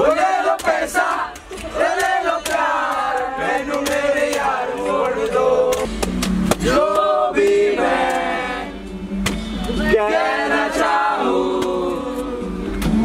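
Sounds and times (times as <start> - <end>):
voices singing together: 0.0 - 8.9, 9.8 - 13.0.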